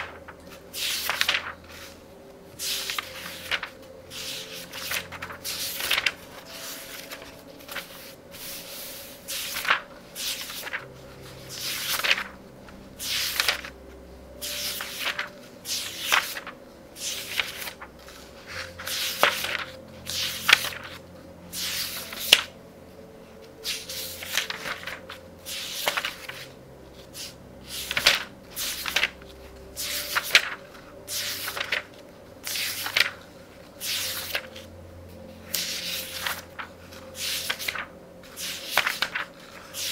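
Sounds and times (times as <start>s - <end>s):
book pages turning: 0.0s - 22.6s, 23.3s - 39.9s.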